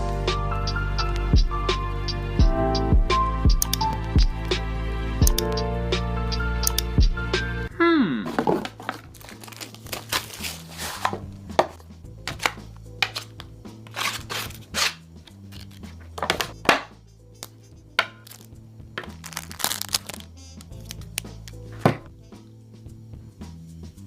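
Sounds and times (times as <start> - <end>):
background music with bass line: 0.0 - 9.0, 10.2 - 24.0.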